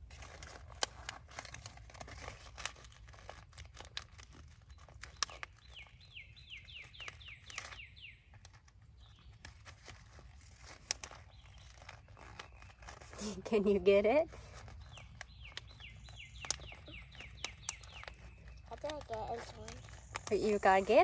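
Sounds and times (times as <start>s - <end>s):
crinkling handling noises: 0.0s - 21.0s.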